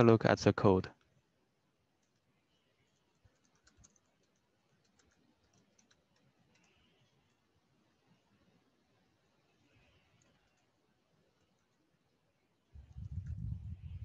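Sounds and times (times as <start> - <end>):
faint keyboard typing: 0.9 - 8.6, 9.4 - 12.1, 12.8 - 14.0.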